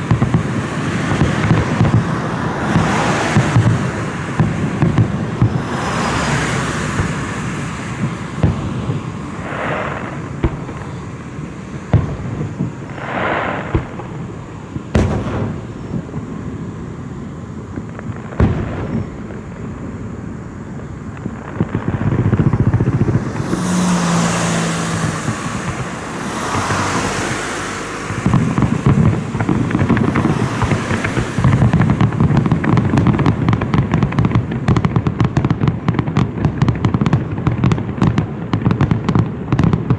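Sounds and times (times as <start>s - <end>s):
firework bangs: 0.0s - 39.9s
firework crackling: 0.0s - 39.9s.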